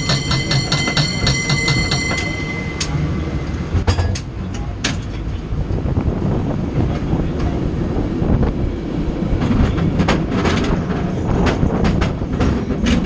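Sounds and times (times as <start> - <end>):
tram clacking and rattling: 0.0 - 13.0
tram rumbling on rails: 0.0 - 13.0.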